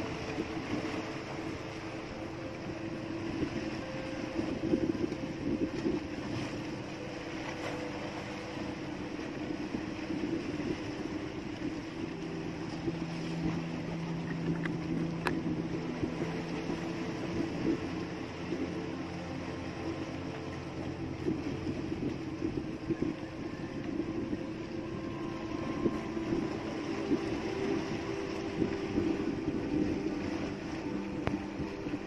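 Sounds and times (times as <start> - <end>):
boat engine idling: 0.0 - 32.0
wind on microphone: 0.0 - 32.0.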